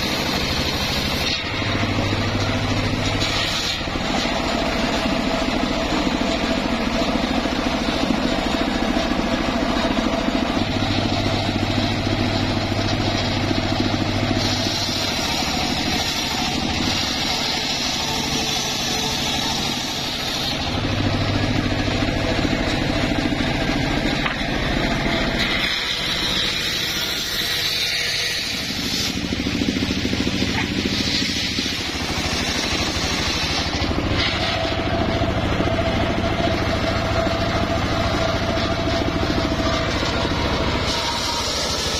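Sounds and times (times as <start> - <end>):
circular saw cutting wood: 0.0 - 41.9
saw engine running: 0.0 - 41.9.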